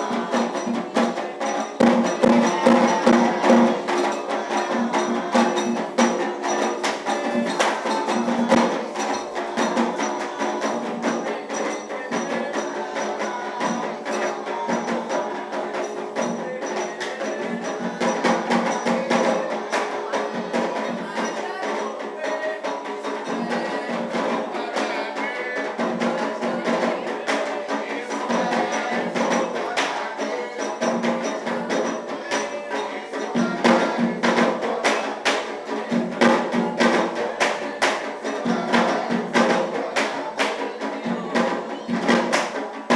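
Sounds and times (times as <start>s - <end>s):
hand drums: 0.0s - 42.9s.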